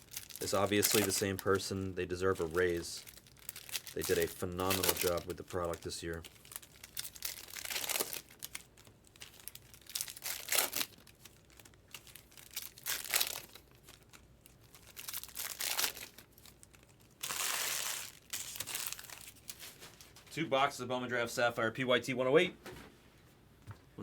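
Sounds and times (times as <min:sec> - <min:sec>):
plastic wrapping crinkling and tearing: 0:00.0 - 0:20.3.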